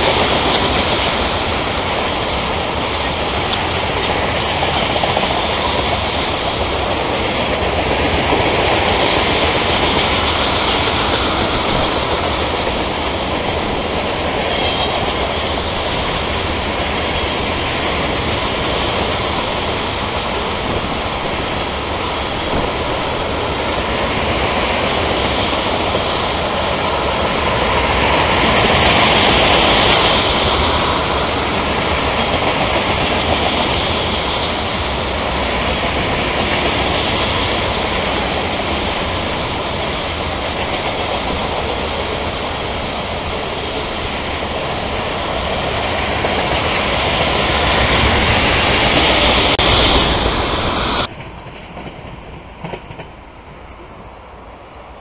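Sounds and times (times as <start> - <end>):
freight train rolling past: 0.0 - 55.0
steel wheels rattling on rail: 0.0 - 55.0.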